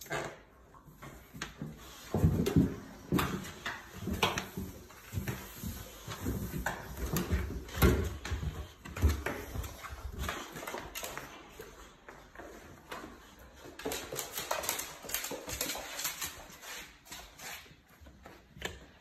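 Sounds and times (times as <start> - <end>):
puppy paws on wooden stairs: 0.7 - 19.0.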